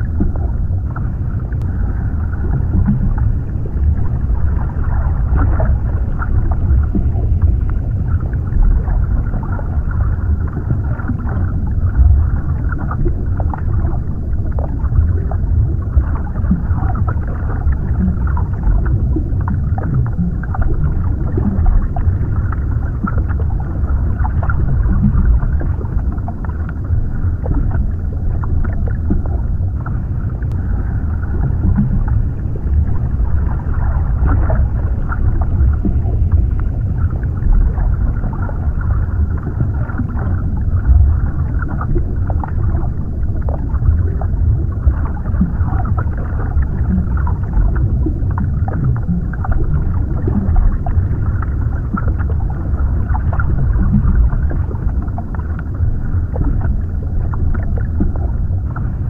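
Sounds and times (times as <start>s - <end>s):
muffled underwater rumble: 0.0s - 59.0s.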